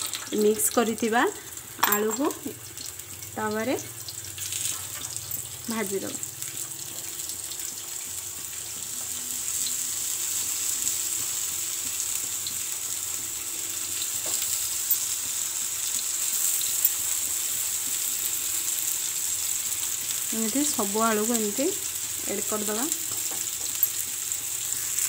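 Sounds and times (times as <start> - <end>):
potato slices sizzling in oil: 0.0 - 25.0.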